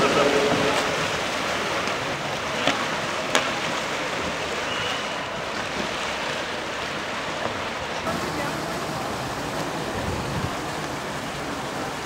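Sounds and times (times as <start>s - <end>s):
water churned by paddles: 0.0s - 12.0s.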